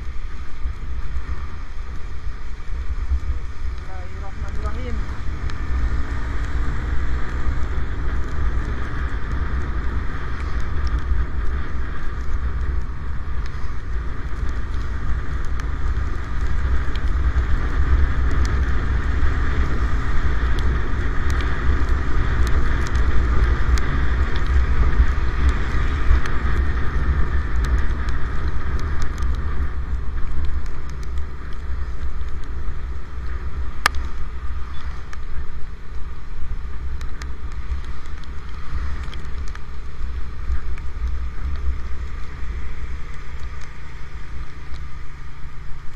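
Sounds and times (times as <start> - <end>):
tyres hissing on wet road: 0.0 - 45.9
wind buffeting microphone: 0.0 - 45.9
faint ticks: 7.6 - 45.9.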